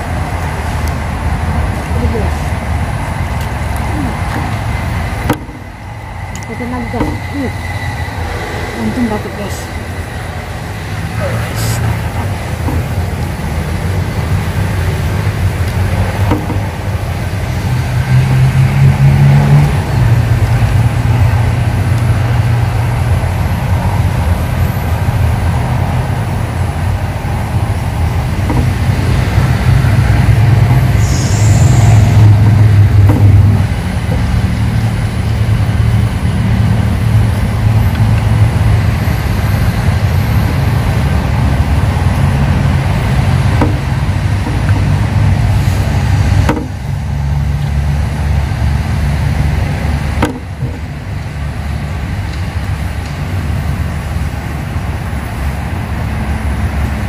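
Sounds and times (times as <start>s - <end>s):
low engine hum: 0.0s - 57.0s.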